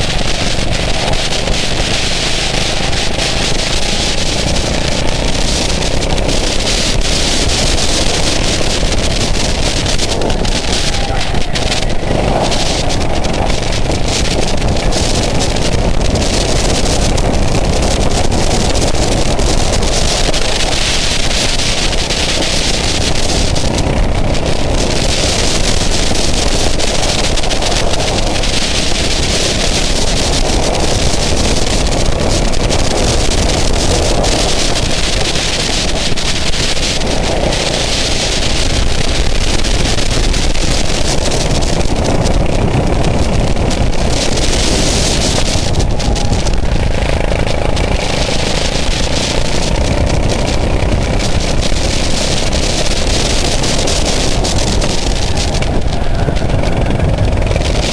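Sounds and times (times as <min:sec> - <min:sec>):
go-kart engine racing: 0:00.0 - 0:57.9
wind noise on microphone: 0:00.0 - 0:57.9.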